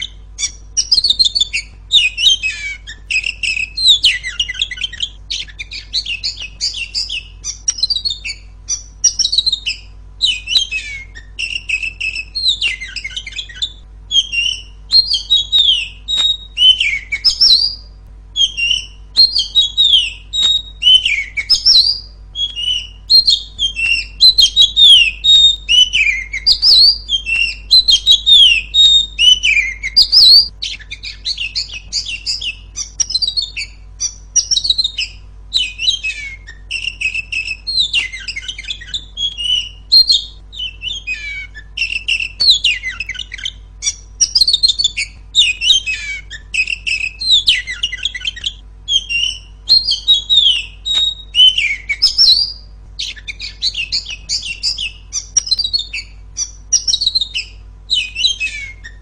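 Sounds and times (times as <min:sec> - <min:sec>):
bird singing whistles and chirps: 0:00.0 - 0:59.0.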